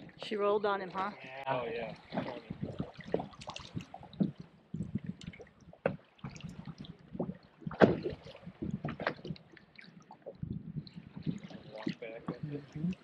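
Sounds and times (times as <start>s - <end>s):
water slapping against a boat: 0.0s - 13.0s.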